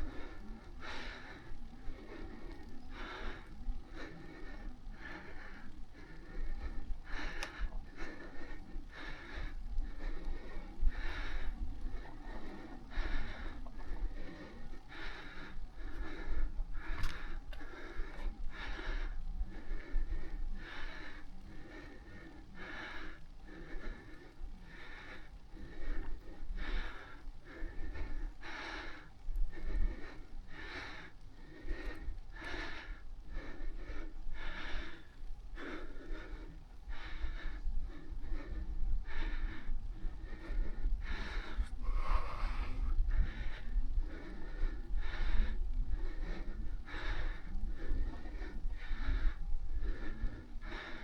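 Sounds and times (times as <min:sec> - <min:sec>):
person breathing hard: 0:00.0 - 0:51.0
steady low rumble: 0:00.0 - 0:51.0.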